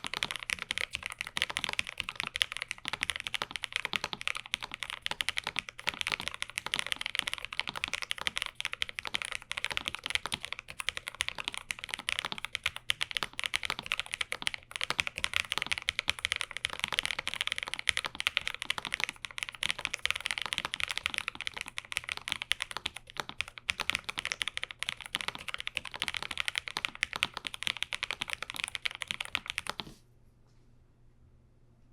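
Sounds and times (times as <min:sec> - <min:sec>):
fast typing on keyboard: 0:00.0 - 0:30.0.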